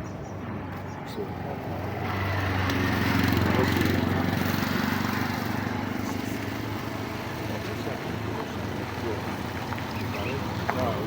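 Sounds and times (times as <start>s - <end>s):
outdoor traffic noise: 0.0s - 11.0s
vehicle engine humming: 0.0s - 11.0s.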